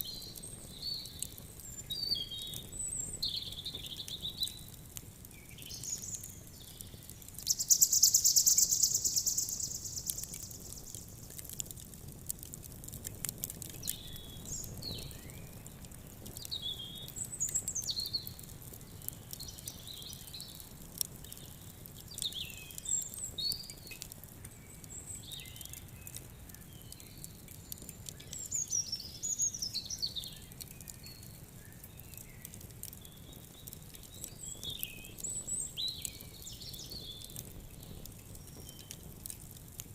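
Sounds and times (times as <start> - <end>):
songbirds chirping and warbling: 0.0 - 11.6, 13.7 - 39.1
campfire crackling: 0.0 - 39.9.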